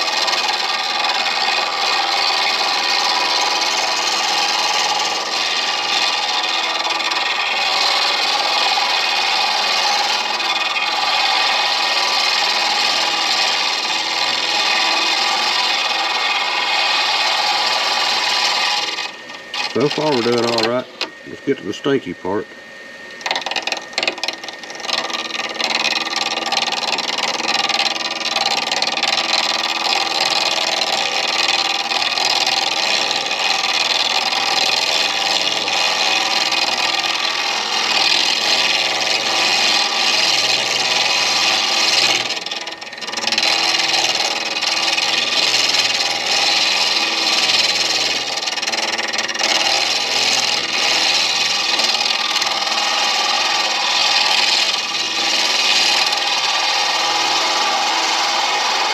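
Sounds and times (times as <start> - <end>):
lathe tool scraping: 0.0 - 58.9.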